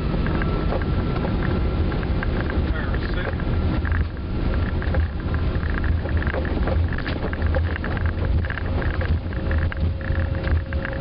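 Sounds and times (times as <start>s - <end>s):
jet airliner low rumble: 0.0s - 11.0s
small rattles and clicks: 0.0s - 11.0s.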